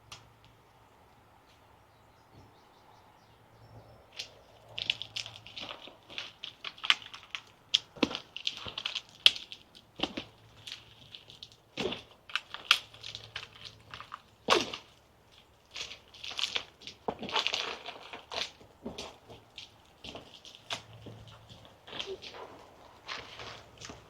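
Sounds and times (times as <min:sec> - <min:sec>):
tree branches rustling and cracking: 0:03.8 - 0:24.0.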